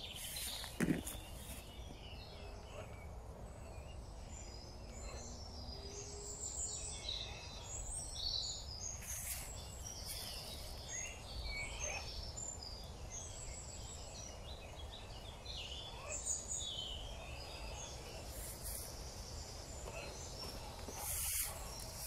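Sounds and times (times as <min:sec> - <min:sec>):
birds chirping and singing: 0:00.0 - 0:22.0.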